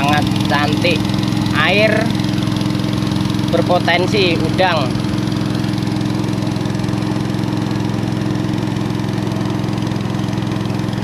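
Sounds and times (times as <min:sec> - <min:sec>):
boat engine puttering: 0:00.0 - 0:11.0.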